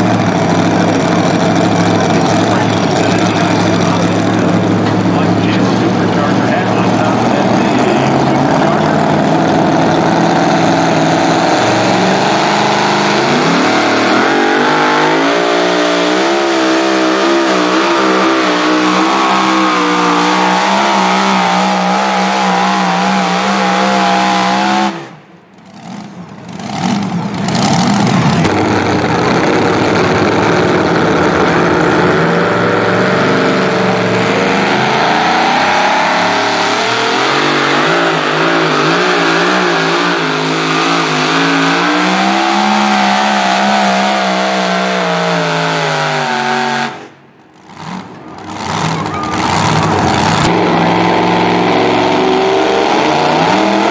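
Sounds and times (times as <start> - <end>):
second truck engine revving: 0.0 - 53.9
supercharged truck engine at full throttle: 0.0 - 53.9.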